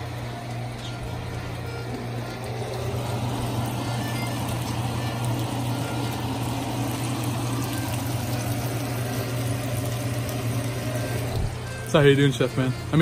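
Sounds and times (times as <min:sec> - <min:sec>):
burger patties sizzling in a pan: 0:00.0 - 0:13.0
constant low hum: 0:00.0 - 0:13.0.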